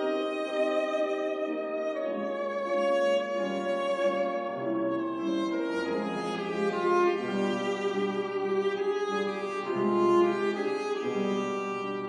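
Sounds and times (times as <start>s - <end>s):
cello long notes: 0.0s - 12.0s
piano accompaniment: 0.0s - 12.0s.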